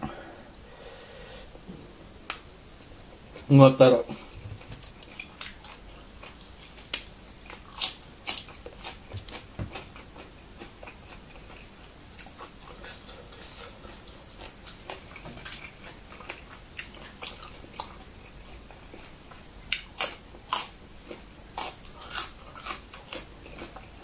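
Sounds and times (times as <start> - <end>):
man chewing food: 4.1 - 24.0.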